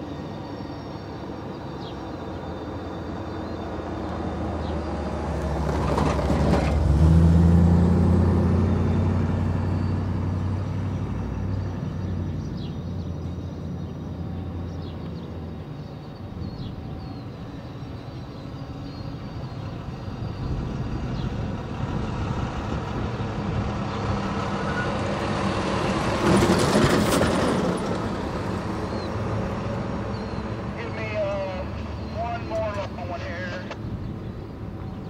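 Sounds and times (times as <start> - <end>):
birds chirping: 0.0 - 5.5, 8.4 - 26.2, 27.8 - 35.0
diesel locomotive engine hum: 0.0 - 35.0.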